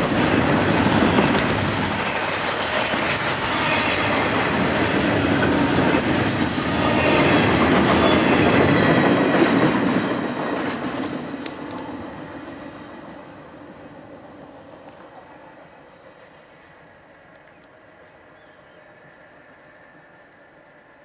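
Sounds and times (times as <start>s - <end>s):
freight train rolling on rails: 0.0s - 21.0s.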